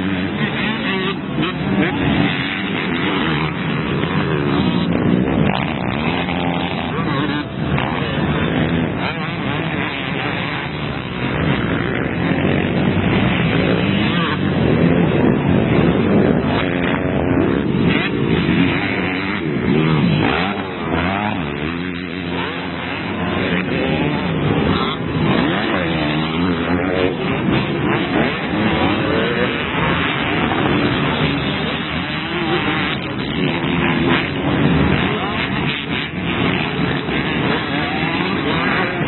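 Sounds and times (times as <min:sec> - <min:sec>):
motocross bikes revving: 0:00.0 - 0:39.0.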